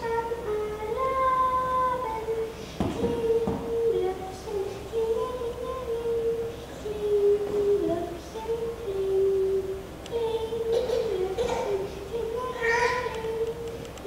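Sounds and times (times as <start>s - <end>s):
girl singing unaccompanied: 0.0s - 14.0s.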